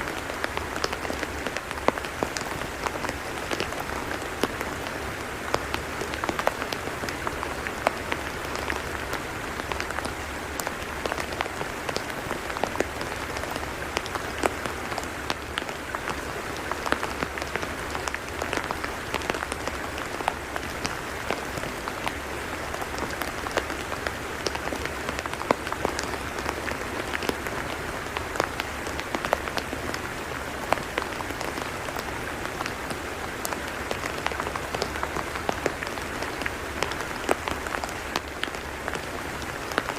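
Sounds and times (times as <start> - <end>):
steady hiss of rain: 0.0 - 39.9.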